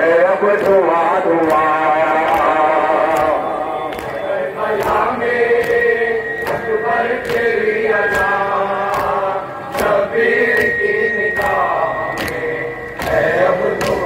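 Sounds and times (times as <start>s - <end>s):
men chanting together: 0.0s - 14.0s.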